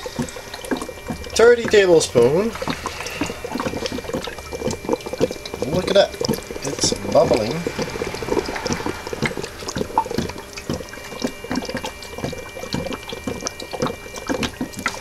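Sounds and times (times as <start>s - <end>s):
liquid bubbling and gurgling: 0.0s - 15.0s.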